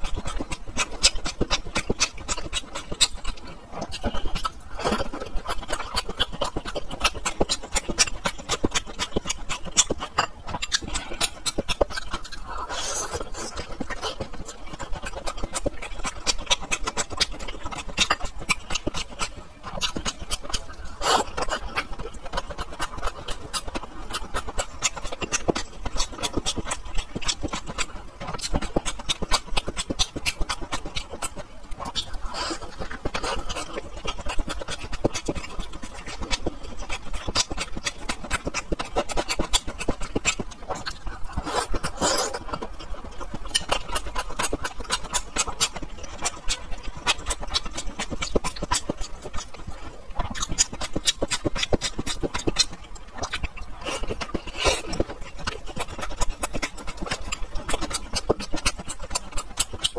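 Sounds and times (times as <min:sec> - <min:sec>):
person chewing with wet smacks: 0:00.0 - 0:59.9.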